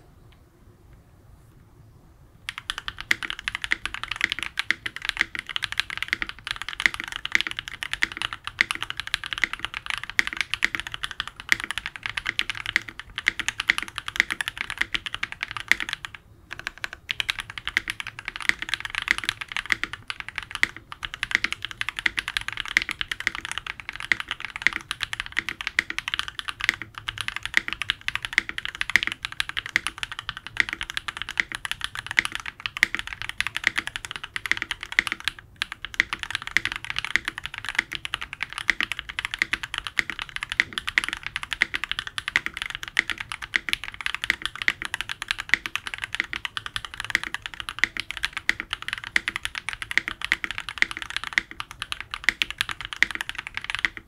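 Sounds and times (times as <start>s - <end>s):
mechanical keyboard typing: 2.5s - 54.0s.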